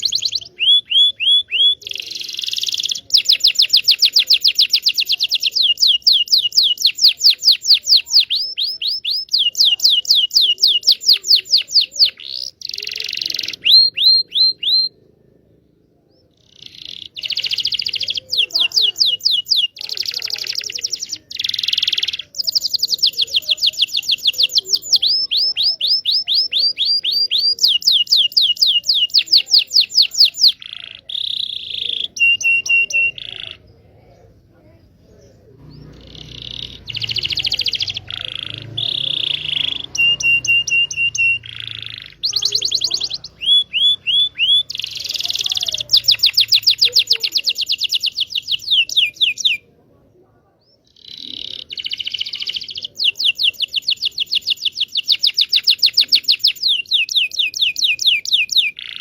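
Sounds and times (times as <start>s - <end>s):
canary singing fast trills: 0.0s - 49.9s, 50.6s - 59.0s.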